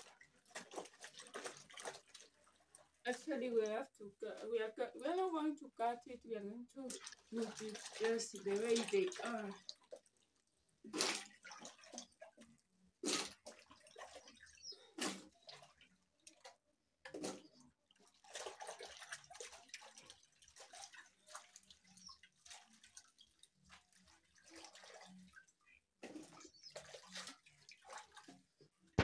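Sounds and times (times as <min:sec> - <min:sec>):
water sloshing in metal basin: 0:00.0 - 0:29.0.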